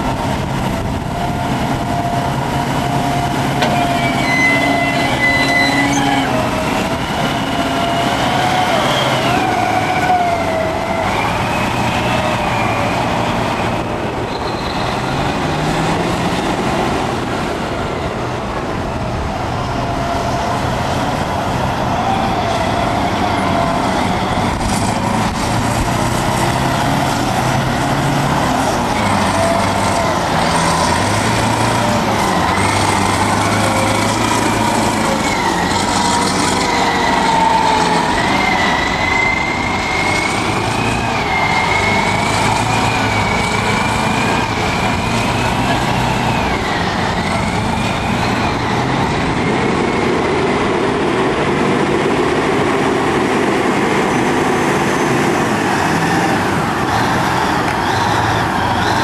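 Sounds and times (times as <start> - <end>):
diesel engine running hard: 0.0 - 59.0
high-pitched whine and squeal: 0.9 - 15.9, 19.2 - 59.0.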